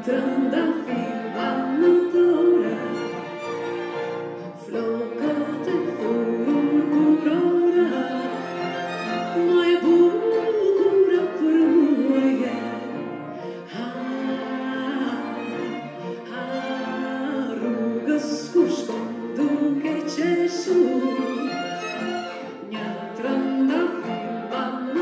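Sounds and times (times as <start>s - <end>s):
woman singing into microphone: 0.0s - 3.0s, 4.5s - 8.4s, 9.4s - 15.6s, 16.2s - 21.6s, 22.4s - 25.0s
bowed strings: 0.0s - 25.0s
piano: 0.0s - 25.0s.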